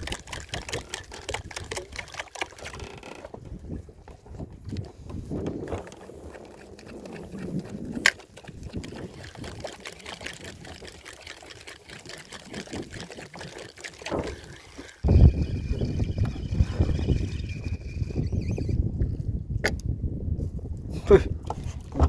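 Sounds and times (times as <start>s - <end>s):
wind rumble on microphone: 0.0s - 10.9s, 14.1s - 22.0s
water trickling and splashing: 0.0s - 18.4s.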